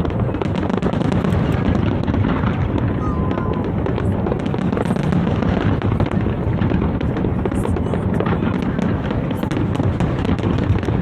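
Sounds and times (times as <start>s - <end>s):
fireworks booming: 0.0s - 11.0s
fireworks sharp cracks: 0.0s - 11.0s.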